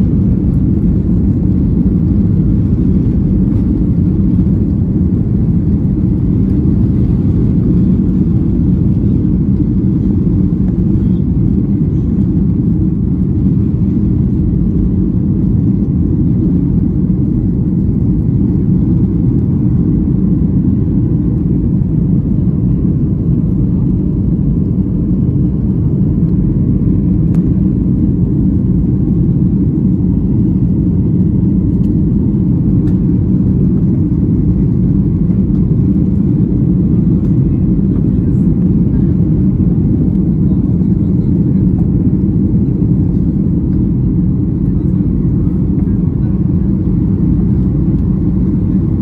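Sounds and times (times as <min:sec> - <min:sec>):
jet engine rumble in cabin: 0:00.0 - 0:49.0.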